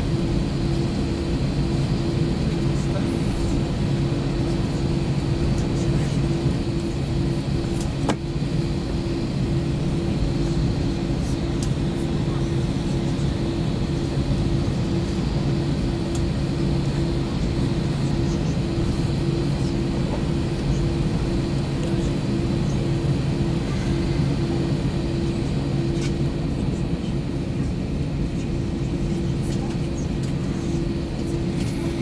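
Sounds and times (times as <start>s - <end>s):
jet engines humming in cabin: 0.0s - 32.0s.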